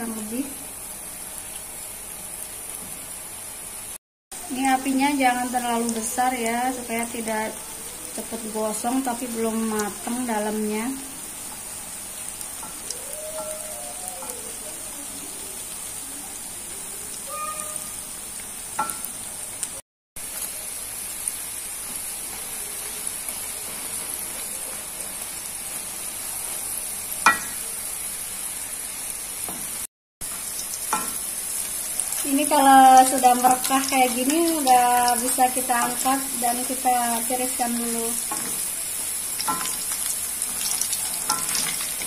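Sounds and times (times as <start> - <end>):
fritters sizzling in hot oil: 0.0 - 42.0.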